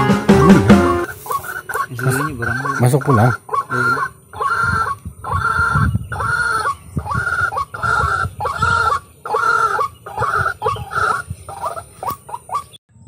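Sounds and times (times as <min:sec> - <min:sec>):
waterhen harsh croaking calls: 0:00.4 - 0:12.8.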